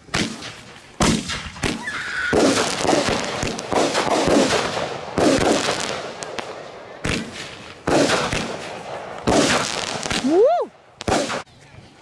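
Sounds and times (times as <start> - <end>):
firework bangs: 0.0 - 11.5
rapid firework popping: 0.0 - 11.5.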